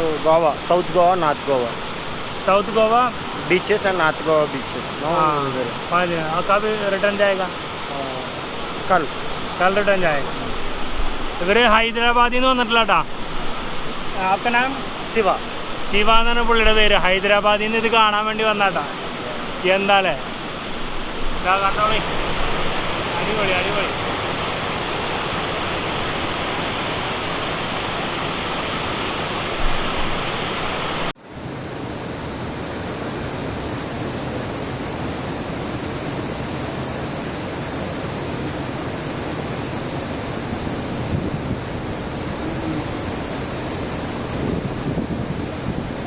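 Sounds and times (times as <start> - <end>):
large waterfall rushing: 0.0 - 46.0.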